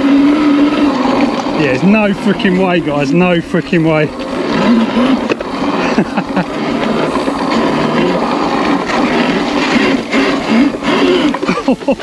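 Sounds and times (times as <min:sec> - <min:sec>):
drivetrain rattle: 0:00.0 - 0:12.0
tyre noise on rough trail: 0:00.0 - 0:12.0.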